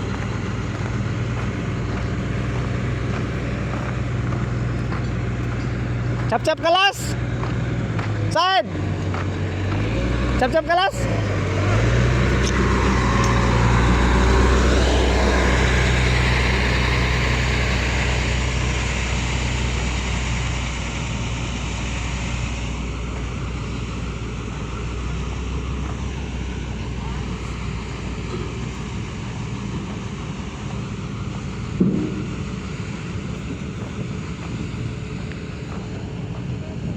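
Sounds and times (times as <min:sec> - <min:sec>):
heavy machinery engine running: 0:00.0 - 0:36.9.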